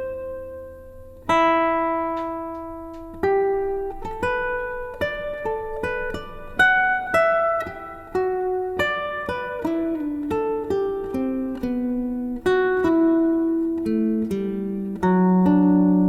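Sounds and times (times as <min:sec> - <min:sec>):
guitar plucked notes: 0:00.0 - 0:16.0.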